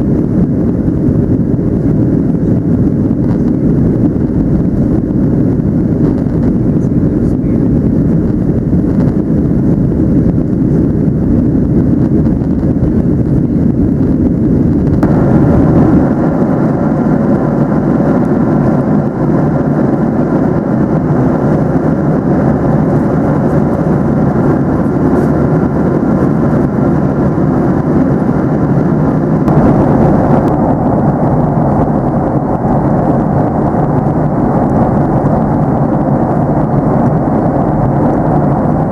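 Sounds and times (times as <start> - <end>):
airplane cabin engine and airflow noise: 0.0 - 38.9.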